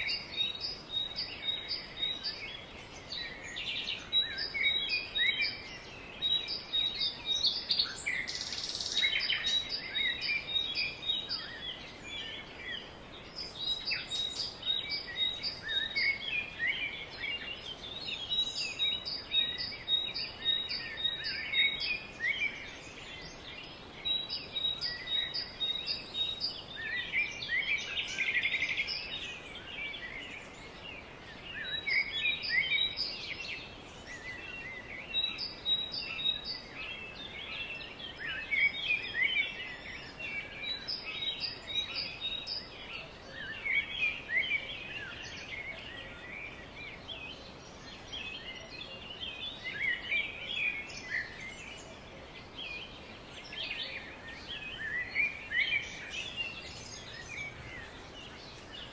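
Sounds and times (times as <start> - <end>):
songbirds chirping and trilling: 0.0 - 58.9.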